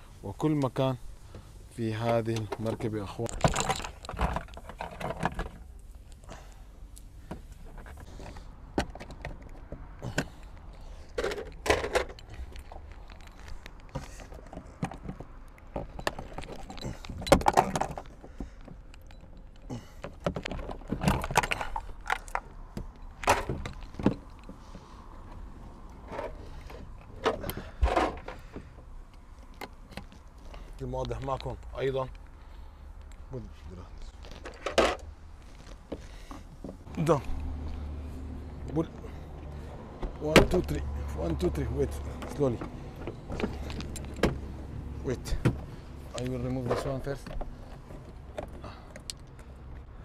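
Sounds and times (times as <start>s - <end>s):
car interior parts rattling: 0.4s - 32.7s, 33.7s - 37.3s, 38.4s - 49.7s.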